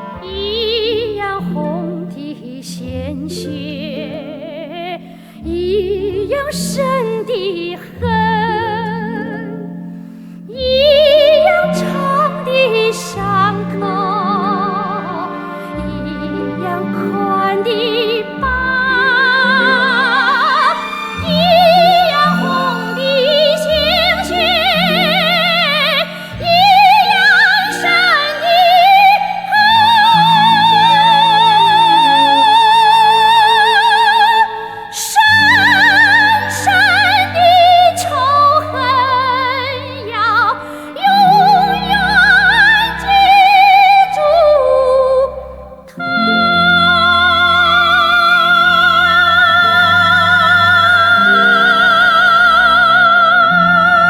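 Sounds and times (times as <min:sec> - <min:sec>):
orchestral accompaniment: 0:00.0 - 0:04.9, 0:08.4 - 0:54.0
woman singing operatically: 0:00.0 - 0:09.7, 0:10.5 - 0:54.0.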